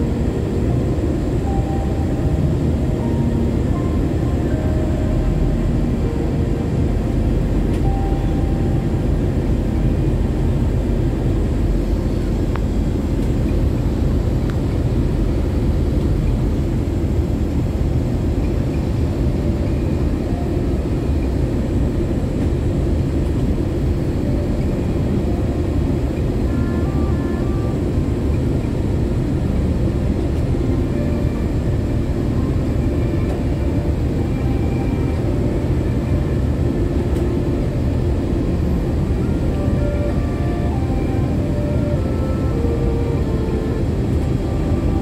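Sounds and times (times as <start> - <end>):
airliner cabin drone: 0.0 - 45.0.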